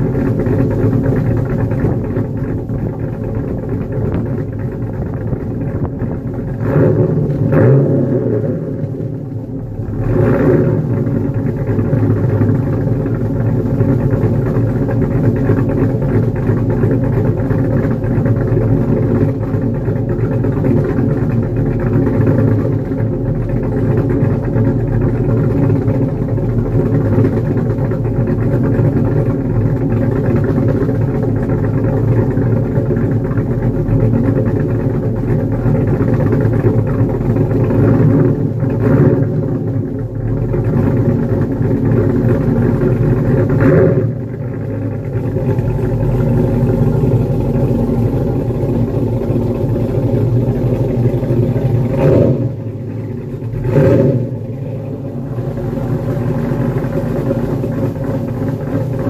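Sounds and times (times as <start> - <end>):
car engine rumbling idle: 0.0 - 59.0.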